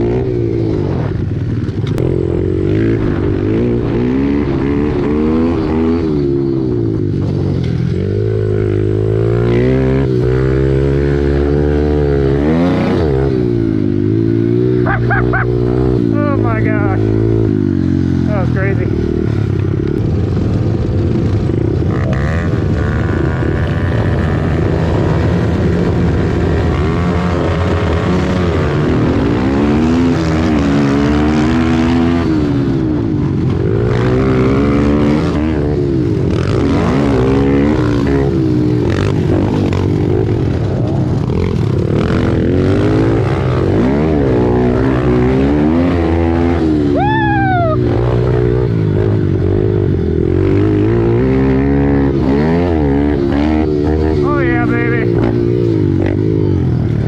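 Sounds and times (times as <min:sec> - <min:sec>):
pit bike engines racing: 0:00.0 - 0:57.0.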